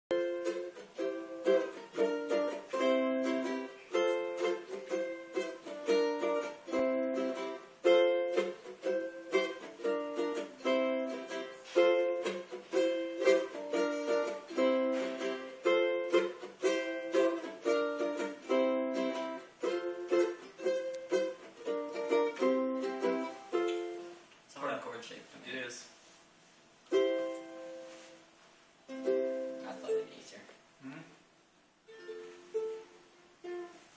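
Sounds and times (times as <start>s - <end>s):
ukuleles strumming chords: 0.1s - 24.2s, 26.8s - 28.2s, 28.8s - 31.0s, 31.8s - 33.9s.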